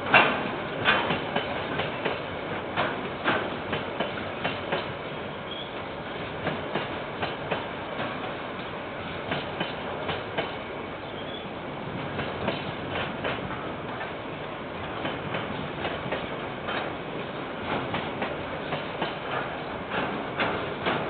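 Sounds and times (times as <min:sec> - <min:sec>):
train wheels clacking over joints: 0:00.0 - 0:08.4, 0:09.2 - 0:10.6, 0:12.0 - 0:14.2, 0:14.9 - 0:21.0
train wagons rumbling: 0:00.0 - 0:21.0.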